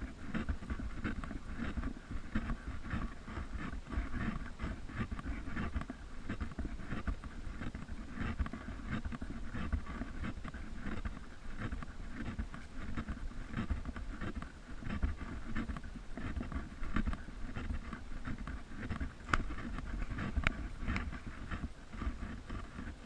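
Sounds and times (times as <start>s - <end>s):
camera scuffs and taps: 0.0s - 23.0s
handling and wind rumble: 0.0s - 23.0s.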